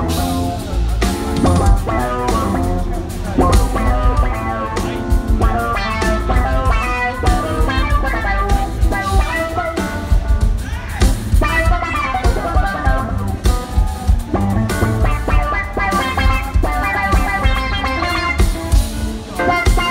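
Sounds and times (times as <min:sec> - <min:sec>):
drum kit: 0:00.0 - 0:19.9
electric bass: 0:00.0 - 0:19.9
keyboards: 0:00.0 - 0:19.9.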